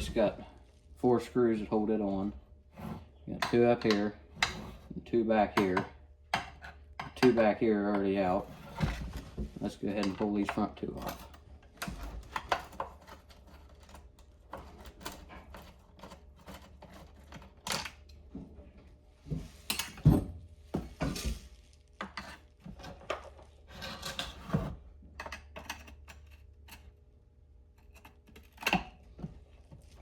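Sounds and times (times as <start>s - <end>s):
scraping and handling: 0.0s - 27.0s.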